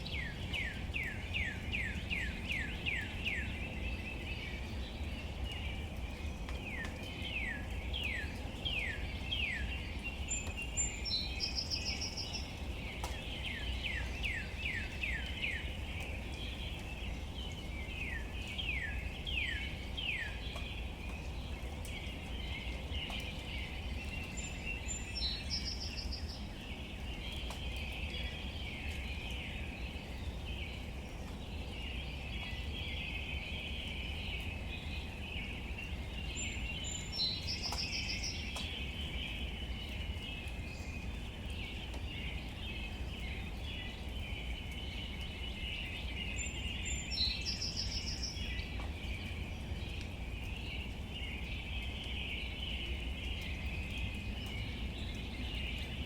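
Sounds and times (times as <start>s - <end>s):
chirping chorus of birds or insects: 0.0s - 56.0s.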